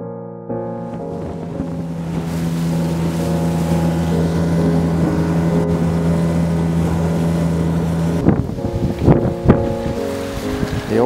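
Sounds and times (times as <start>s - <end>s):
water rushing past hull: 0.7s - 11.0s
outboard motor droning: 0.8s - 11.0s
wind rushing over microphone: 0.9s - 11.0s.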